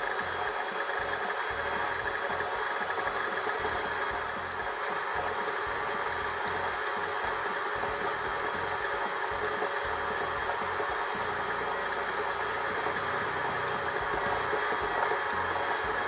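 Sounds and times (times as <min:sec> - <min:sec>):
stand mixer motor running: 0:00.0 - 0:16.0.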